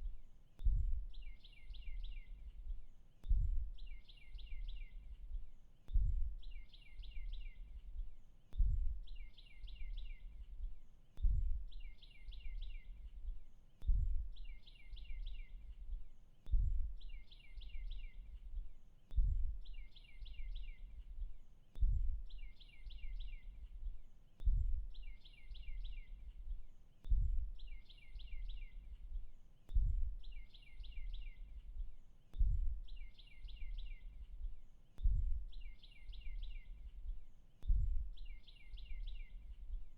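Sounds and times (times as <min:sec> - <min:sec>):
deep low pulse: 0:00.0 - 0:39.9.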